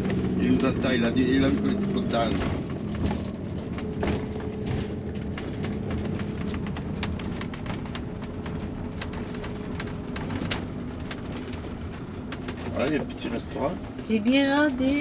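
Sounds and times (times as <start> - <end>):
raindrops ticking on windscreen: 0.0 - 15.0
vehicle engine and tyres droning: 0.0 - 15.0.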